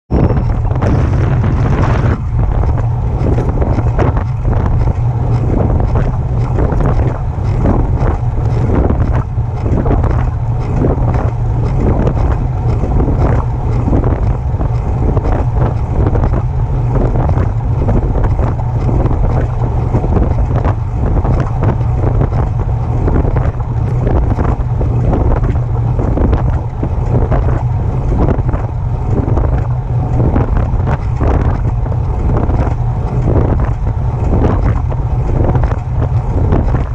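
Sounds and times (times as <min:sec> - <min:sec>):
wind rumble on microphone: 0:00.0 - 0:36.9
bicycle regular clicking noise: 0:00.2 - 0:36.9.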